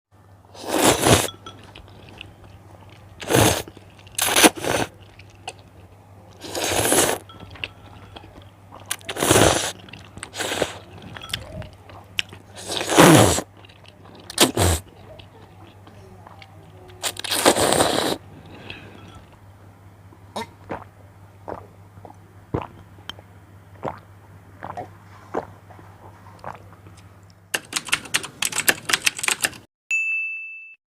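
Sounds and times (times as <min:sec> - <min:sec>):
noisy eating of noodles: 0:00.5 - 0:19.4, 0:20.4 - 0:23.0, 0:23.8 - 0:28.2.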